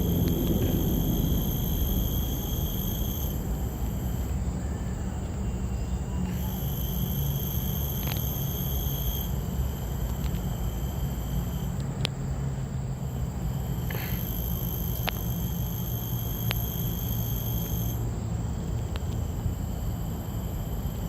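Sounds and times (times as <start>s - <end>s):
constant low rumble: 0.0s - 21.0s
insects droning: 0.0s - 21.0s.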